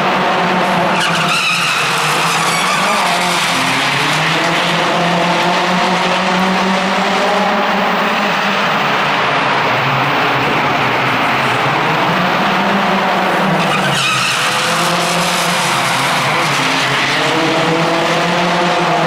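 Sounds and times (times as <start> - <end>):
rally car engine revving: 0.0 - 19.0
tyres skidding: 0.2 - 19.0.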